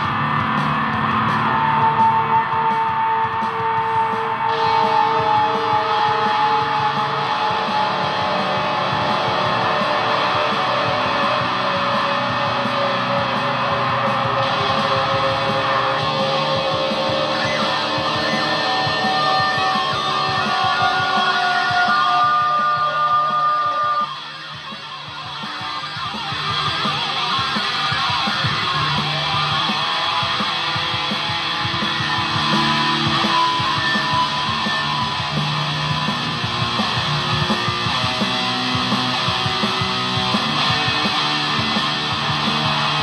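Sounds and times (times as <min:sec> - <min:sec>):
electric guitar sustained notes: 0:00.0 - 0:43.0.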